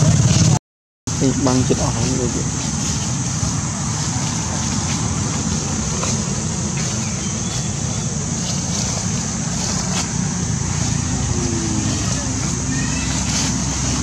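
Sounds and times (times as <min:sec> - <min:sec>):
constant high hiss: 0:01.1 - 0:14.0.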